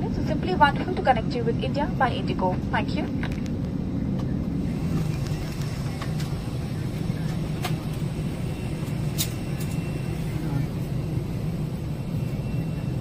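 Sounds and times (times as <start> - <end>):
airliner cabin hum and rumble: 0.0 - 13.0.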